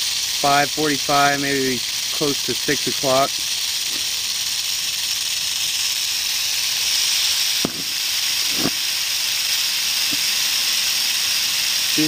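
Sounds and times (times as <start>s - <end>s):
rattlesnake rattling: 0.0s - 12.0s.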